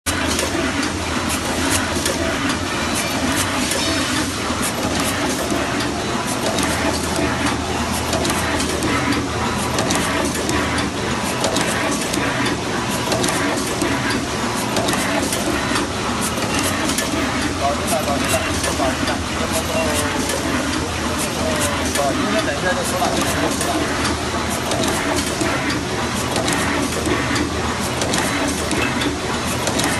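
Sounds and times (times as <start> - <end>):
crimping machine clattering: 0.1 - 29.9
machine hum: 0.1 - 29.9.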